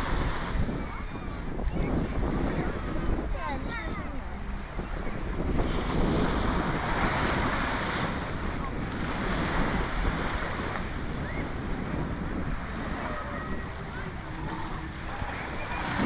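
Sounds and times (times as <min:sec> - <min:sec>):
surf washing onto sandy beach: 0:00.0 - 0:16.0
wind rumbling on microphone: 0:00.0 - 0:16.0.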